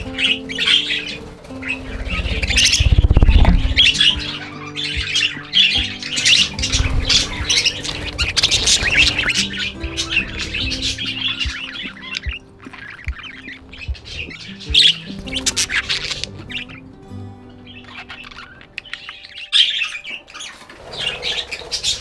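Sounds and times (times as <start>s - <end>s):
budgerigars chattering and squawking: 0.0s - 16.9s, 17.5s - 22.0s
background music with held notes: 0.0s - 22.0s.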